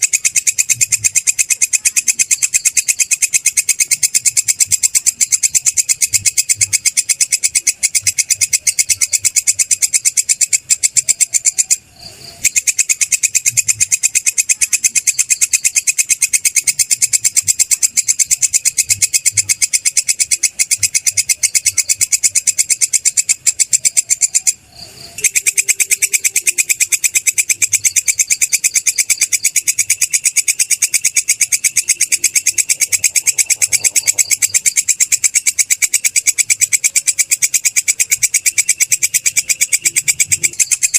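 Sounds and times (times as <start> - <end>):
grasshopper buzzing trill: 0.0 - 40.9.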